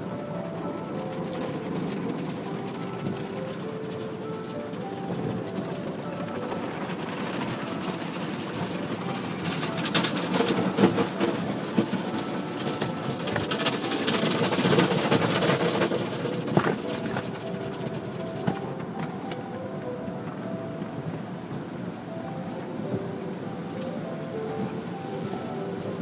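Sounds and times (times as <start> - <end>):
car wash spray and machinery: 0.0 - 26.0.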